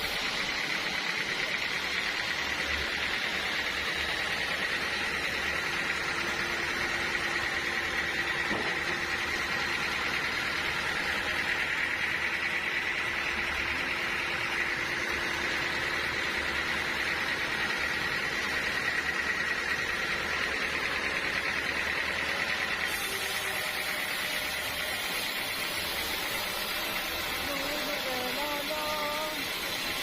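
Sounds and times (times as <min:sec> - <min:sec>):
sawmill machinery hum: 0:00.0 - 0:30.0.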